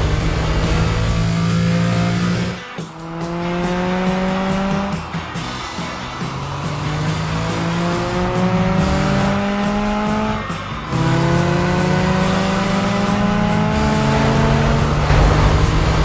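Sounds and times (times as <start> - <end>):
background music: 0.0 - 16.0
cartoon race car engine accelerating: 0.0 - 16.0.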